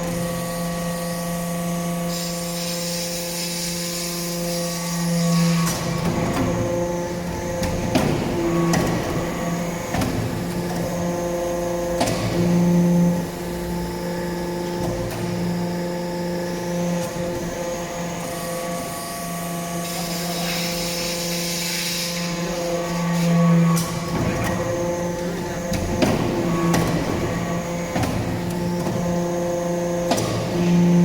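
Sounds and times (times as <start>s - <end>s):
hydraulic pump motor hum: 0.0s - 31.0s.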